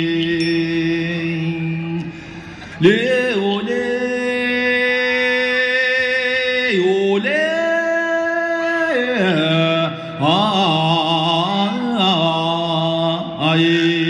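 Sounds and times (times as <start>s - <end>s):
chanted singing in long notes: 0.0s - 14.0s.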